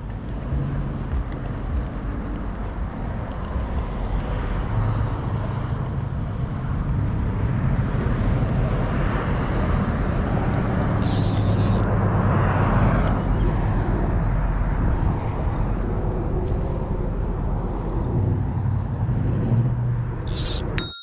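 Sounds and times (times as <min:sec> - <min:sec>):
distant road traffic rumble: 0:00.0 - 0:20.8.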